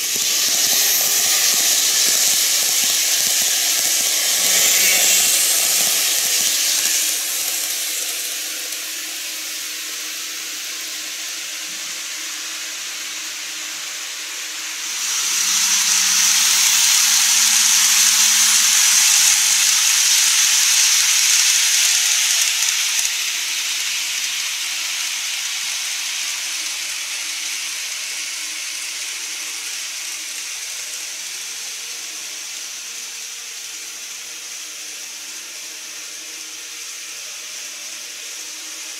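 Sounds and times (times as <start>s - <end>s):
model train wheels whirring: 0.0s - 38.9s.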